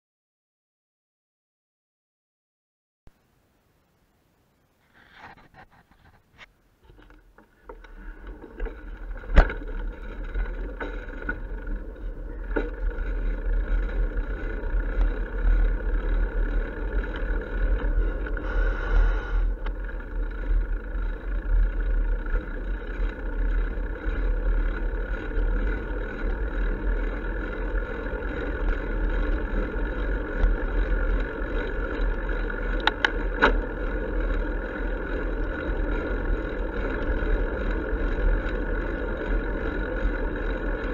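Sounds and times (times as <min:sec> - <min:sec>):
bicycle road rumble: 0:04.7 - 0:40.9.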